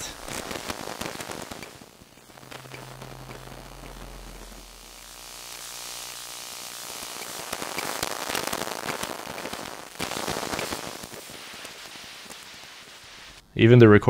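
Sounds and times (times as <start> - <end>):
crackling electromagnetic static: 0.0 - 13.9.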